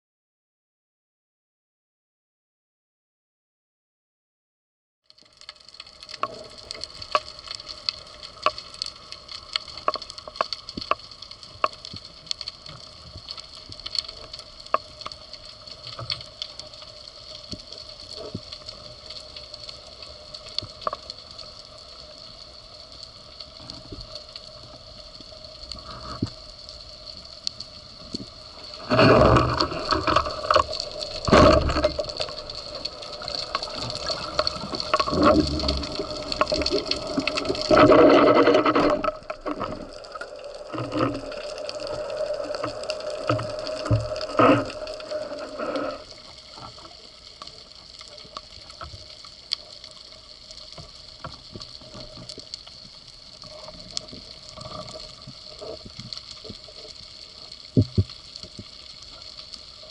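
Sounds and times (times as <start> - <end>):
underwater clicks and crackles: 5.0 - 59.9
gushes of water and bubbles: 5.2 - 59.9.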